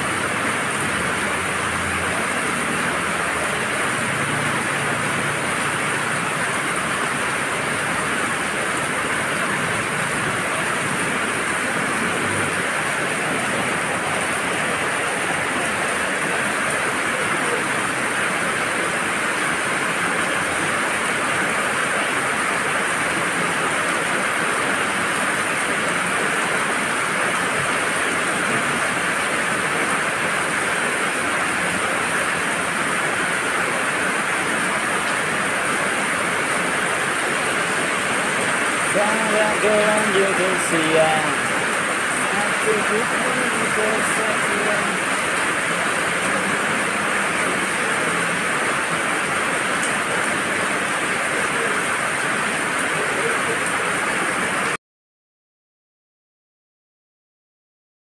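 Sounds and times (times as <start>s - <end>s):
heavy rain on wet road: 0.0s - 54.8s.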